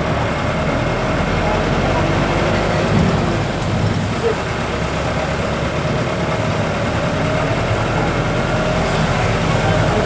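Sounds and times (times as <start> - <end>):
rain on a vehicle: 0.0 - 10.0
vehicle engine and road noise: 0.0 - 10.0.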